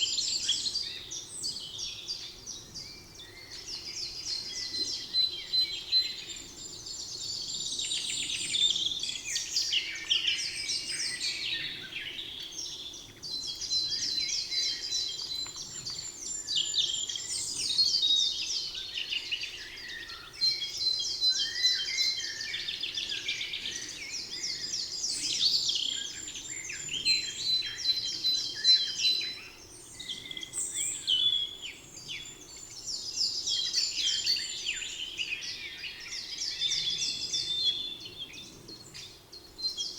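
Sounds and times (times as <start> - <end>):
songbird trilled song: 0.0 - 39.9.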